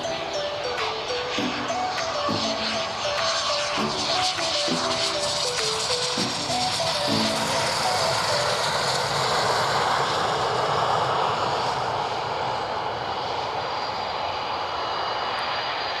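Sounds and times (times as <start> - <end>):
faint high whine: 0.0 - 16.0
jet engine rush: 0.0 - 16.0.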